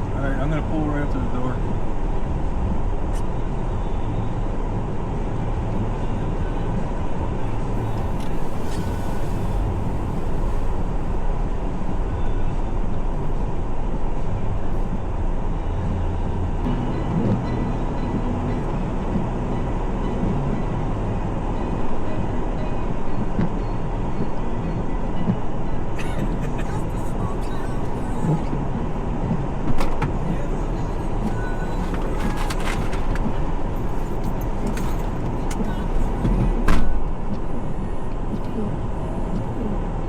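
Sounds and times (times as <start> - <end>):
vehicle engine and tyres rumbling: 0.0 - 40.0.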